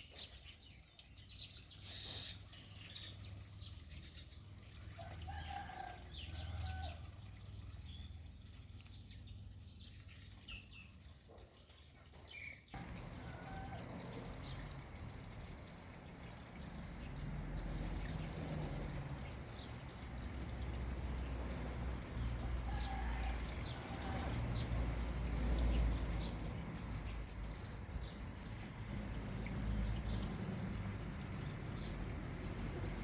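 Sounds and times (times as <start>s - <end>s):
running water: 0.0s - 33.0s.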